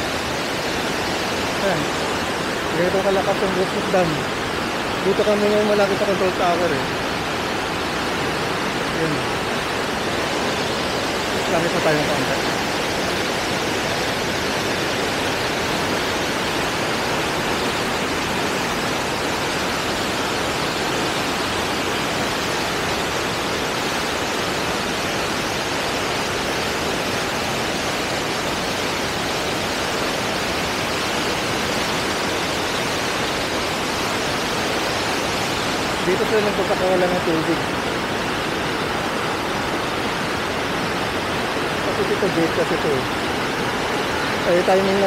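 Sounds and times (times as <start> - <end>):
water rushing through dam gate: 0.0 - 45.0.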